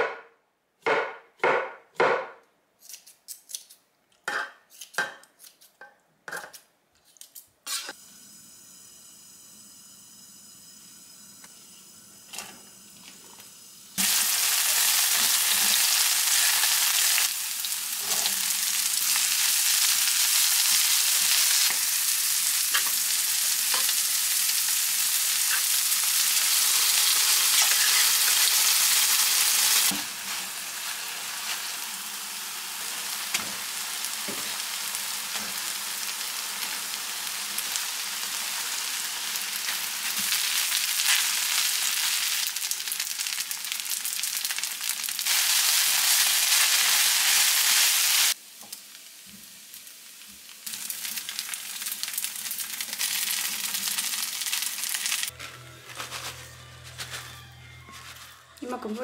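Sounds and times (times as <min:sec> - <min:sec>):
rice sizzling in a frying pan: 0:07.9 - 0:55.4.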